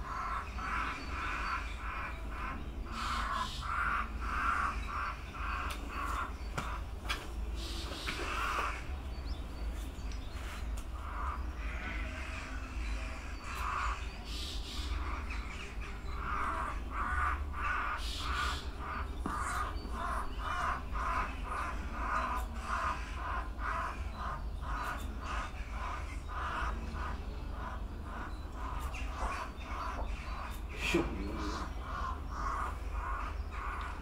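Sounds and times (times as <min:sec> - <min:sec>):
jackdaw harsh distress calls: 0:00.0 - 0:06.8, 0:11.0 - 0:34.0.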